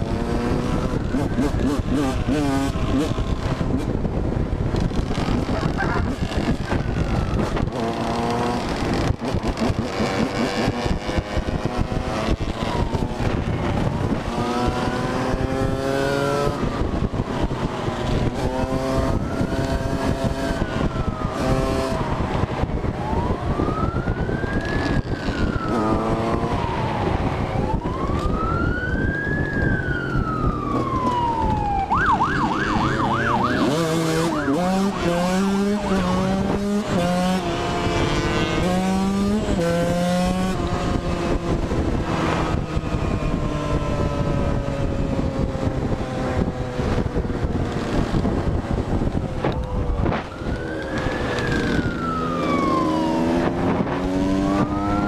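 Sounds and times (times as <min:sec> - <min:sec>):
road and wind noise: 0:00.0 - 0:55.0
emergency siren wailing and yelping: 0:00.1 - 0:04.3, 0:05.2 - 0:55.0.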